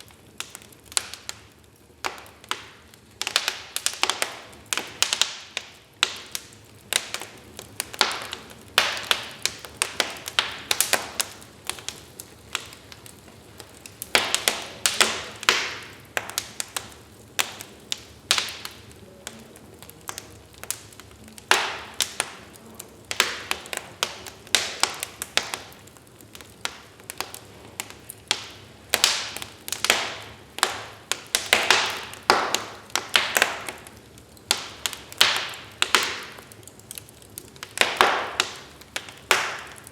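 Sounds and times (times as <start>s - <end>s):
low hiss of burning logs: 0.0s - 39.9s
wood fire crackling: 0.0s - 39.9s.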